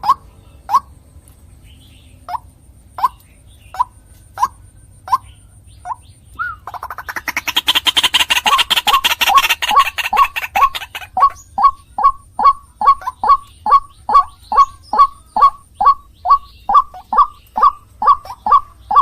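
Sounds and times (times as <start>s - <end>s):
waterhen calling: 2.3s - 19.0s.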